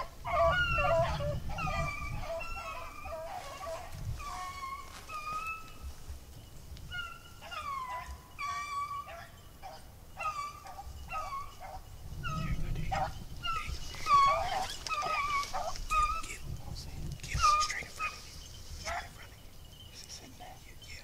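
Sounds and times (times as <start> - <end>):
dogs baying and yelping: 0.0 - 6.0, 6.8 - 16.4, 17.3 - 19.2.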